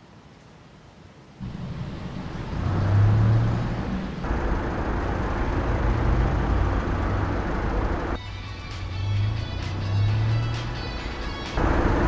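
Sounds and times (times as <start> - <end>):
car engine hum: 1.4 - 12.0
tyre and road noise: 1.4 - 12.0.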